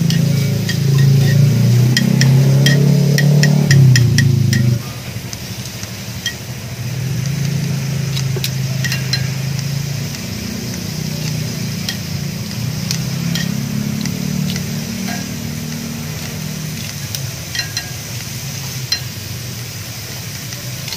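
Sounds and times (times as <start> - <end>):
tongs clinking on iron plate: 0.0 - 19.4
low engine drone: 0.0 - 20.9.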